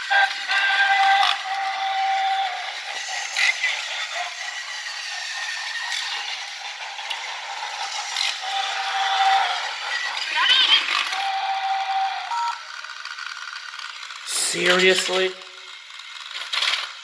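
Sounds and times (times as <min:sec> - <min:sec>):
toy train rattling on track: 0:00.0 - 0:17.0.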